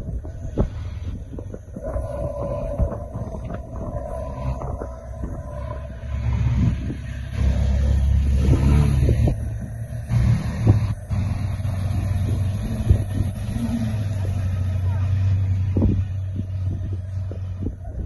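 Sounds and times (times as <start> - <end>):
car engines rumbling: 0.0 - 18.0.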